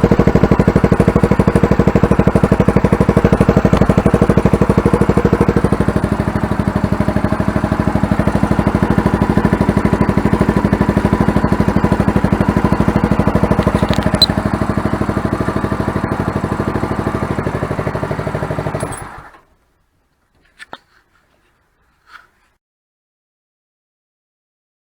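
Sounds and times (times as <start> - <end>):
engine idling through silencer: 0.0 - 22.3.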